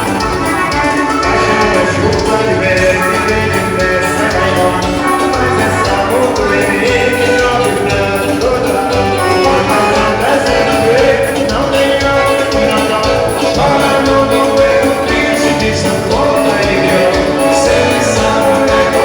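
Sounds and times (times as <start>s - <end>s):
band playing dance music: 0.0s - 19.0s
person singing: 0.0s - 19.0s.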